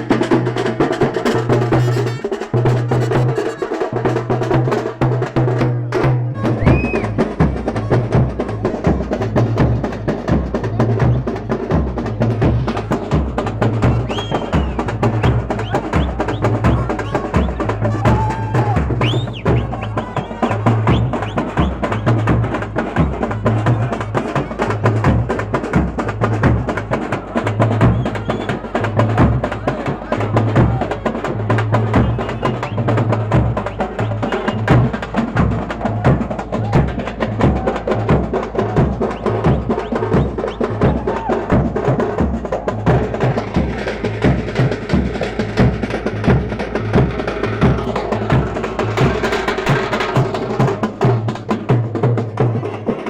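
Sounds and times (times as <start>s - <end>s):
fast drums: 0.0s - 53.0s
pulsing bass beat: 5.6s - 51.9s.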